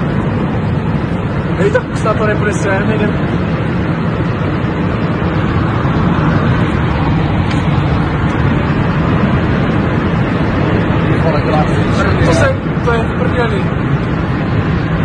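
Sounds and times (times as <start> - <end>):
loud rushing wind: 0.0 - 15.0.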